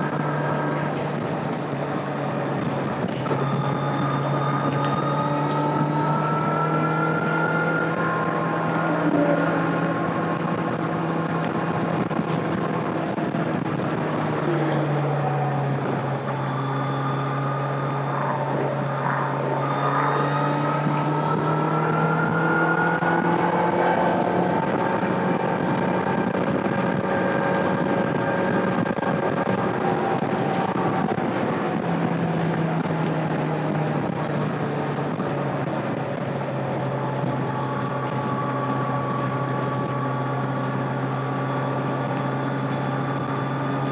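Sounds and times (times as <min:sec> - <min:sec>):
riding wind noise: 0:00.0 - 0:43.9.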